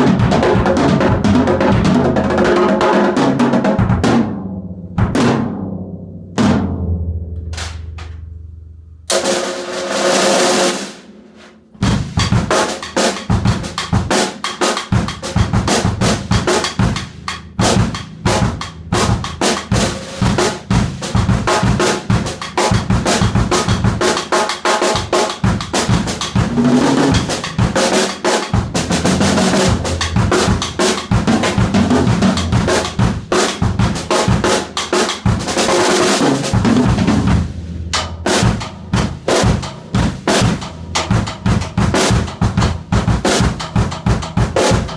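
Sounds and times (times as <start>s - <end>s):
drum kit playing grooves and fills: 0.0s - 6.8s, 7.4s - 8.3s, 9.1s - 44.9s.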